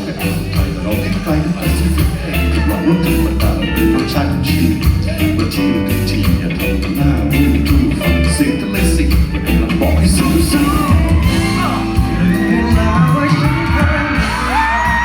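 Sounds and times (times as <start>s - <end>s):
bass: 0.0s - 15.0s
guitar: 0.0s - 15.0s
steady drum beat: 0.0s - 15.0s.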